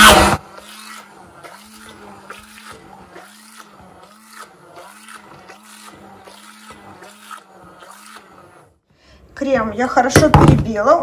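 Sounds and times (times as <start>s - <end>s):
immersion blender running: 0.0s - 9.0s.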